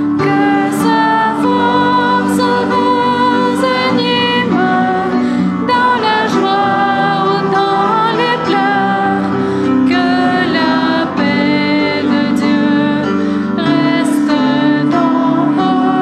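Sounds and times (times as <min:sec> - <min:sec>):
sustained instrumental chords: 0:00.0 - 0:16.0
woman singing a hymn: 0:00.0 - 0:16.0.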